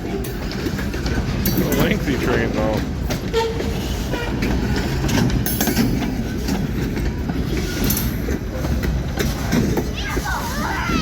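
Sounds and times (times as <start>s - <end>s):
freight train cars rumbling: 0.0s - 11.0s
wheels clacking over rail joints: 0.0s - 11.0s.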